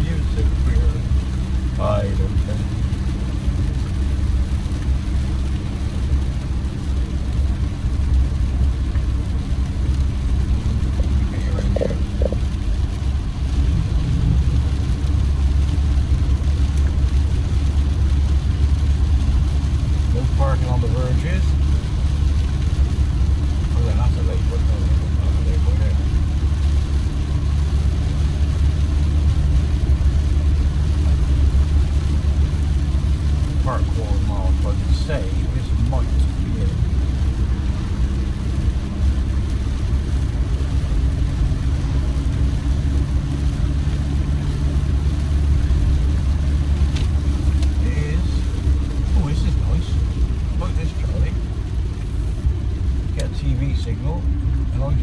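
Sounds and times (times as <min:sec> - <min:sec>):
engine and road rumble in cabin: 0:00.0 - 0:55.0.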